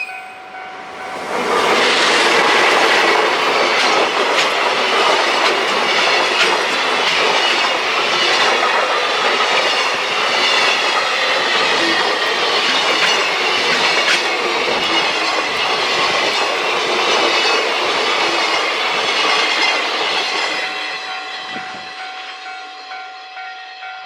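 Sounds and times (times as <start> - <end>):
train wheels rushing on rails: 0.1 - 22.9
wheels clacking over rail joints: 1.1 - 20.7.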